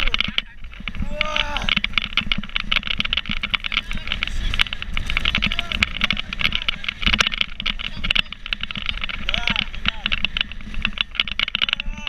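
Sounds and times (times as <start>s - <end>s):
rumbling engine: 0.0s - 12.0s.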